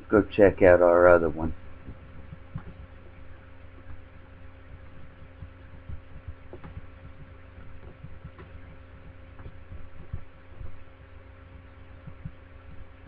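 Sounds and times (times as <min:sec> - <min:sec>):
steady low hum: 0:00.0 - 0:13.0
soft low thumps: 0:01.0 - 0:13.0.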